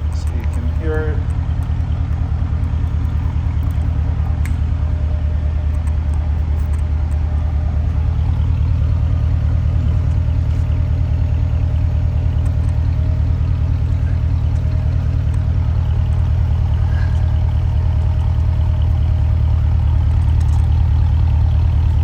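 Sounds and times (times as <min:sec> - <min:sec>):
car engine deep rumble: 0:00.0 - 0:22.0.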